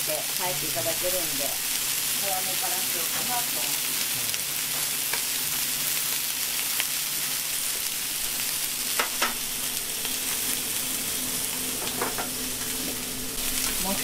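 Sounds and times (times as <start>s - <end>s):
chicken wings sizzling in oil: 0.0s - 14.0s.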